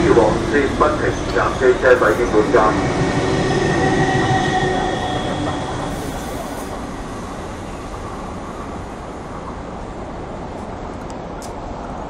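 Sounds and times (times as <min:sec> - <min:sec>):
passenger train passing on rails: 0:00.0 - 0:12.0.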